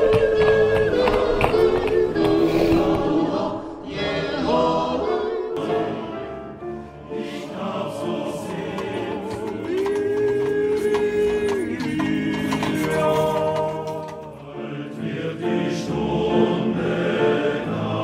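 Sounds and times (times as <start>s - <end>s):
men's choir singing in harmony: 0.0s - 18.0s.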